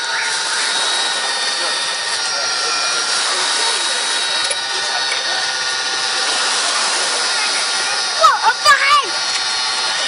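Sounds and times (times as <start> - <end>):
model excavator mechanical whine: 0.0 - 10.0.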